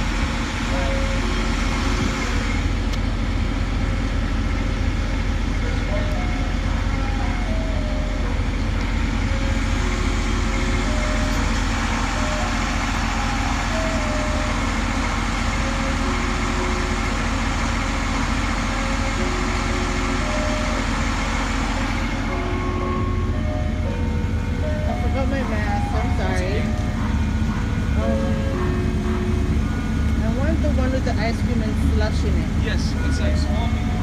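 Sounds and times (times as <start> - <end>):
ice cream truck jingle: 0.0 - 34.0
truck engine rumble: 0.0 - 34.0.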